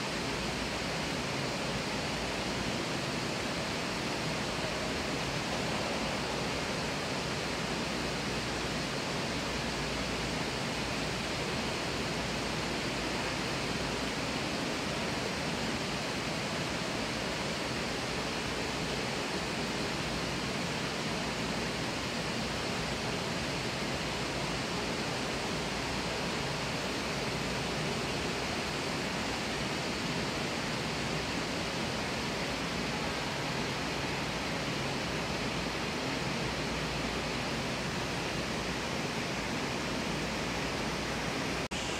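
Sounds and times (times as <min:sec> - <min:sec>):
water rushing in water feature: 0:00.0 - 0:41.9.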